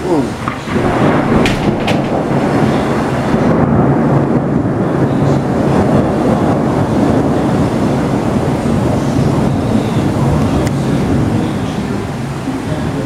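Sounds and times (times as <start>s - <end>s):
rain: 0.0s - 13.0s
wind: 0.0s - 13.0s.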